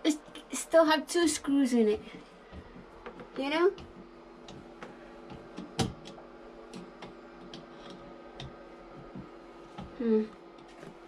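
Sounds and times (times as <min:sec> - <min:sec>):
battery charger electrical hum: 0:00.0 - 0:11.0.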